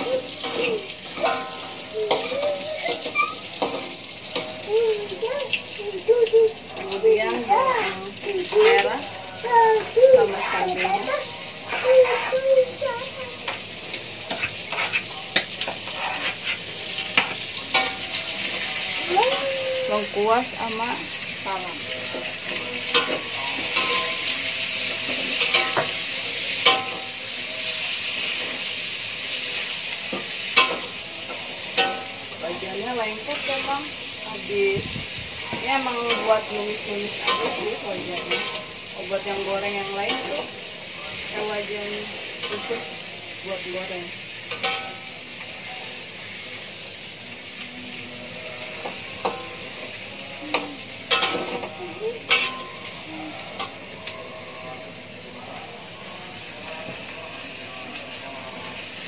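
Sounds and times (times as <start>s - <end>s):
metal spatula scraping wok: 0.0s - 4.6s, 7.4s - 12.8s, 13.4s - 55.1s
aromatics sizzling in hot oil: 0.0s - 59.0s.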